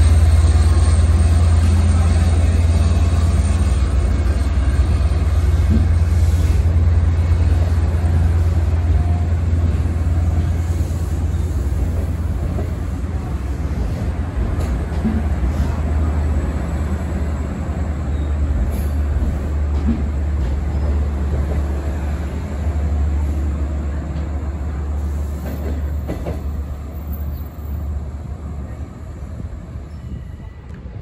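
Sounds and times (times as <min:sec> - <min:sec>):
diesel train engine rumble: 0:00.0 - 0:31.0
train wheels on rails: 0:00.0 - 0:31.0.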